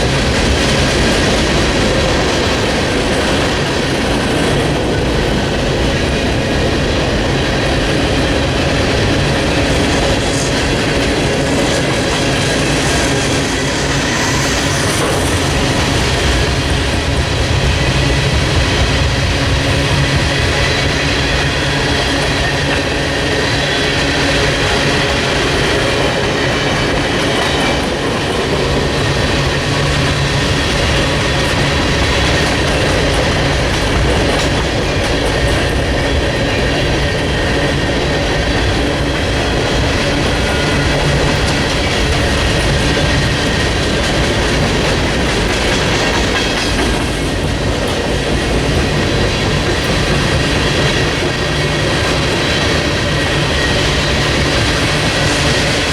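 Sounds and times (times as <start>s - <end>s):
train wheels clickety-clack: 0.0s - 55.9s.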